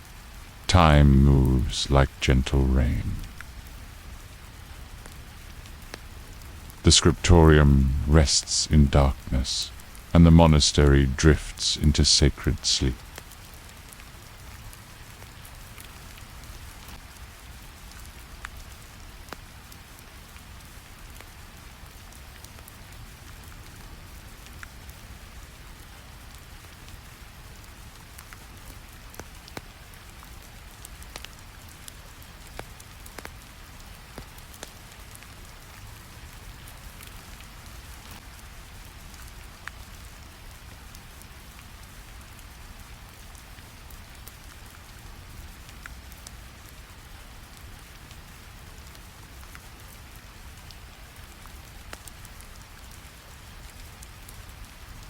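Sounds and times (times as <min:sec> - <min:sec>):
crackling fire: 0:00.0 - 0:55.0
steady rain hiss: 0:00.0 - 0:55.0.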